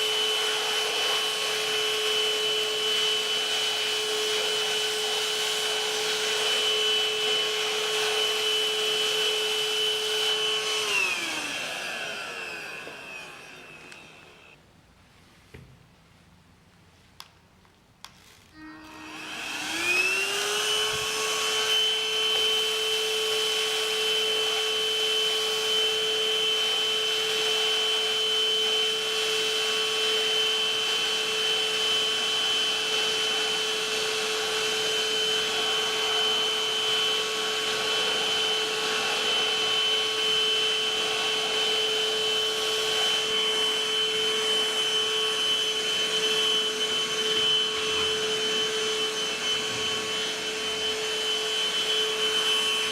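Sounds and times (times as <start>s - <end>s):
handheld vacuum cleaner whining: 0.0s - 14.6s, 18.1s - 52.9s.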